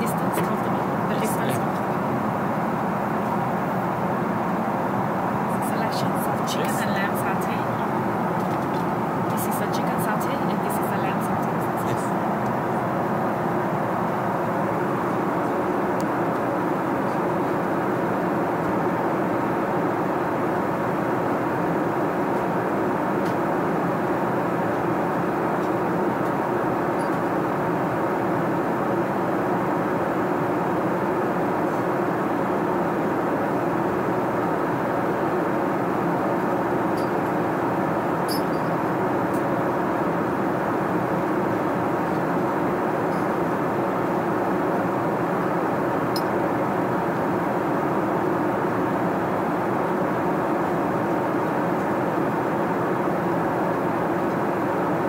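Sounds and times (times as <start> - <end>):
airliner cabin hum: 0.0 - 55.0.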